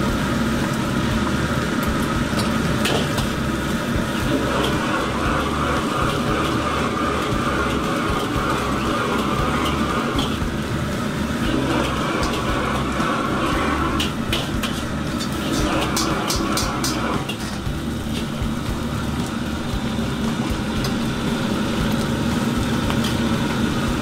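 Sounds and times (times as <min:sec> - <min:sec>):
shrimp sizzling in hot oil: 0:00.0 - 0:24.0
wok burner roaring: 0:00.0 - 0:24.0.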